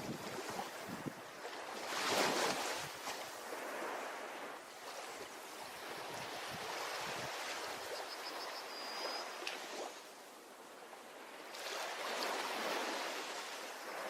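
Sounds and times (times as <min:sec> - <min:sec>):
ocean waves breaking on beach: 0:00.0 - 0:14.0.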